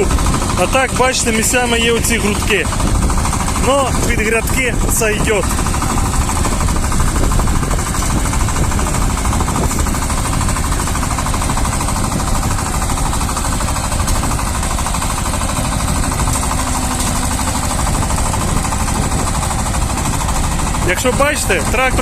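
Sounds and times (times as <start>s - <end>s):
rotary tiller churning soil: 0.0s - 22.0s
tractor diesel engine running: 0.0s - 22.0s.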